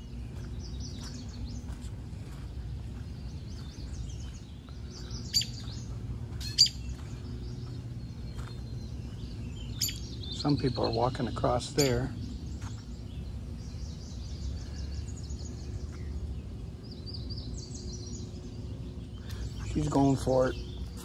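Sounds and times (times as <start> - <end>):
sharp loud bird calls: 0.0 - 16.2, 16.9 - 21.0
steady low background noise: 0.0 - 21.0
wild birds chirping and calling: 0.0 - 21.0.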